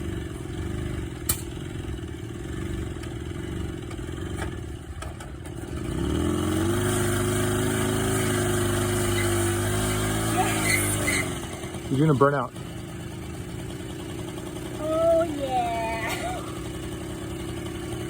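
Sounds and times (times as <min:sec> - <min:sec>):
moped engine running: 0:00.0 - 0:18.0.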